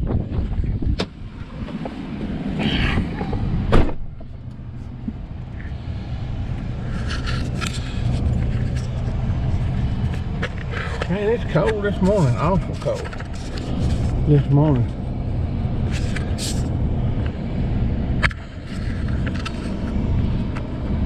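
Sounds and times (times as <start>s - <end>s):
wind buffeting microphone: 0.0s - 21.0s
vehicle engine running: 0.2s - 21.0s.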